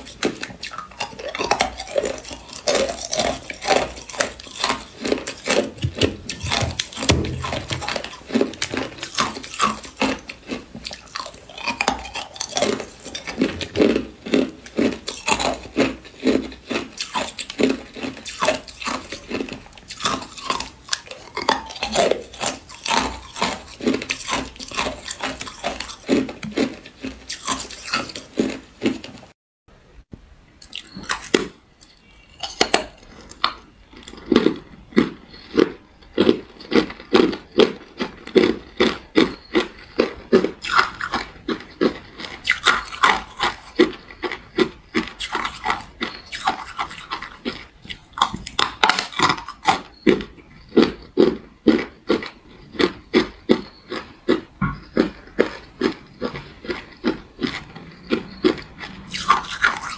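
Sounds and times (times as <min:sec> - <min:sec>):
ice crunching between teeth: 0:00.0 - 0:29.4, 0:30.6 - 0:59.9.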